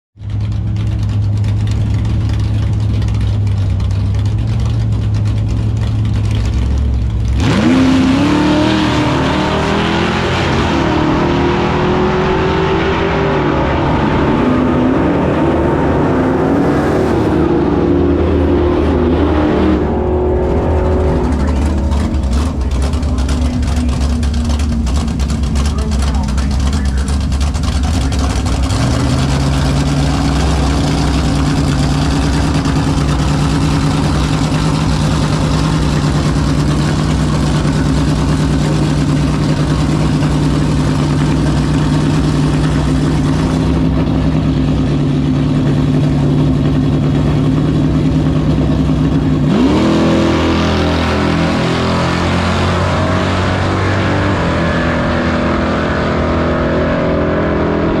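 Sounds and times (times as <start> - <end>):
car engine revving: 0.2 - 58.0
muscle car engines running: 0.2 - 58.0.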